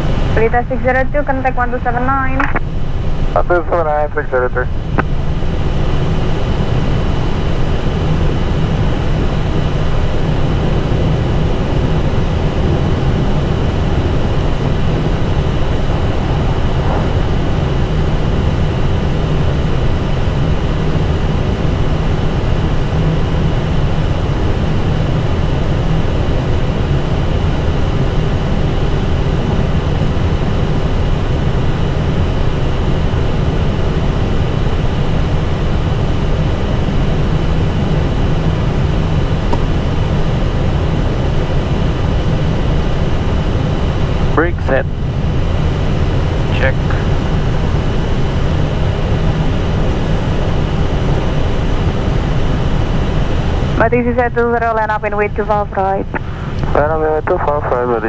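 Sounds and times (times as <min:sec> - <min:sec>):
faint steady whine: 0:00.0 - 0:58.0
jet engines idling low rumble: 0:00.0 - 0:58.0.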